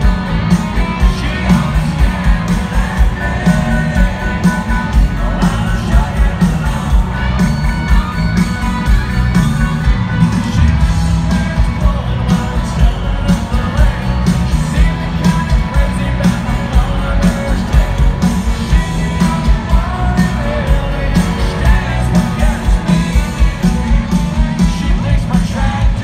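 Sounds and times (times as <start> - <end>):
man singing lead: 0.0 - 9.8, 10.9 - 26.0
live country band: 0.0 - 26.0.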